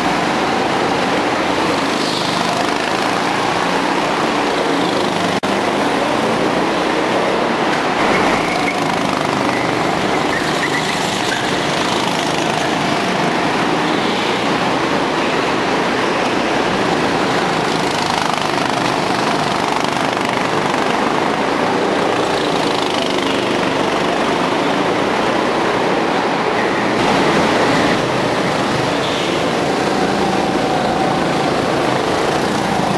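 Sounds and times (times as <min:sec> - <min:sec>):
go-kart engines racing: 0:00.0 - 0:32.9.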